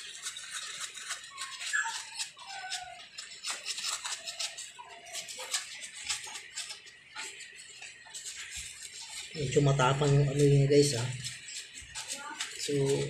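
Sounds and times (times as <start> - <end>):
brush scrubbing metal: 0.0 - 13.0.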